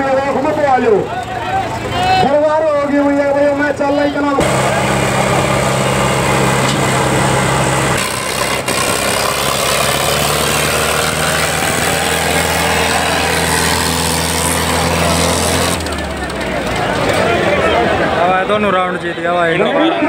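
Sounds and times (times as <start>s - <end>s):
tractor engines under heavy load: 0.0s - 20.0s.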